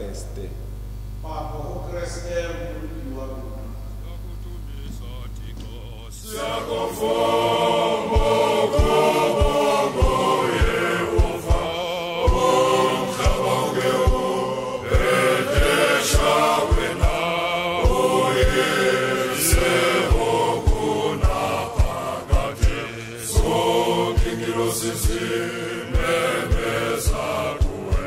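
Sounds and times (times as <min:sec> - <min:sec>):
voices chanting a hymn: 0:01.2 - 0:28.0
low drum beat: 0:04.2 - 0:28.0.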